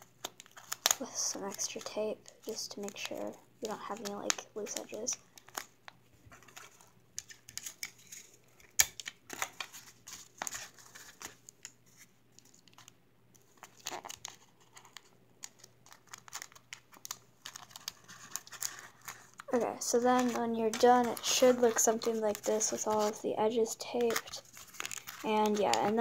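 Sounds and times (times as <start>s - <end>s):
paper crinkling: 0.0s - 26.0s.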